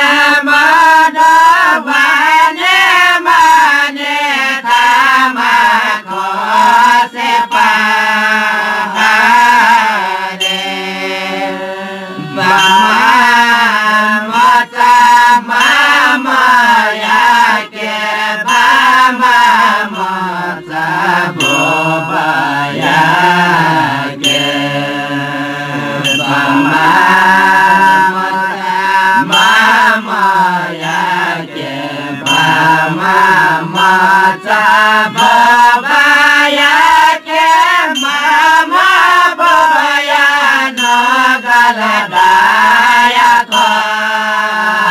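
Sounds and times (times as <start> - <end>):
group singing in chorus: 0.0 - 44.9
hand cymbal strikes: 0.0 - 44.9
harmonium: 0.0 - 44.9.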